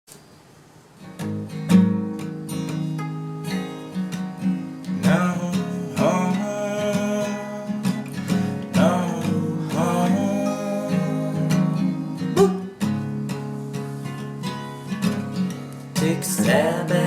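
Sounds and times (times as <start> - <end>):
guitar chords: 1.1 - 17.0.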